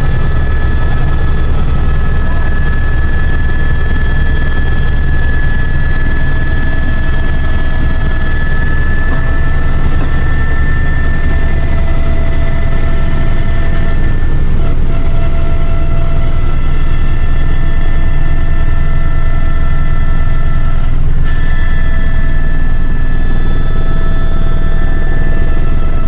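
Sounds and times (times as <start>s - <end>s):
helicopter rotor beat: 0.0s - 26.0s
high-pitched helicopter whine: 0.0s - 26.0s.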